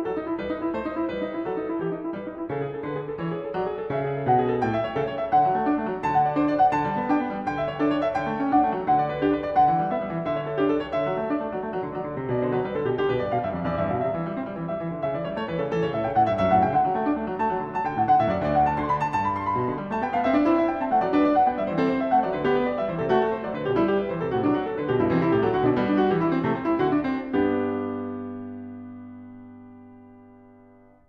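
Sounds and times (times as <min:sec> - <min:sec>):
solo piano with quick running notes: 0:00.0 - 0:31.0.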